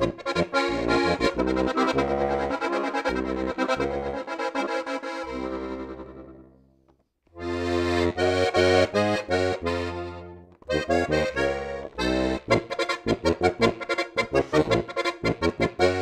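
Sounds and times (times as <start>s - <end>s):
button accordion playing: 0.0s - 6.6s, 7.4s - 16.0s.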